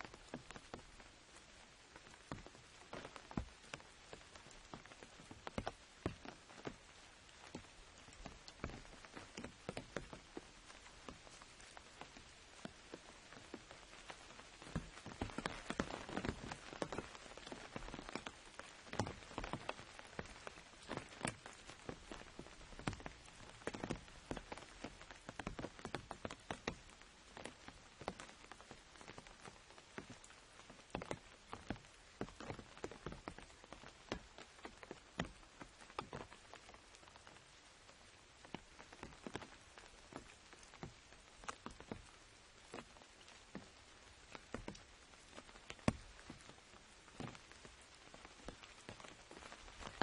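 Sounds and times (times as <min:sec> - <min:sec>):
rain hissing on umbrella: 0:00.0 - 0:50.0
raindrops tapping umbrella: 0:00.0 - 0:50.0.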